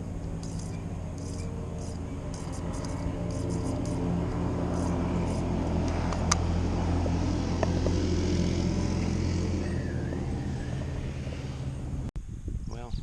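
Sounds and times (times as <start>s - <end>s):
vehicle engine rumble: 0.0s - 12.2s.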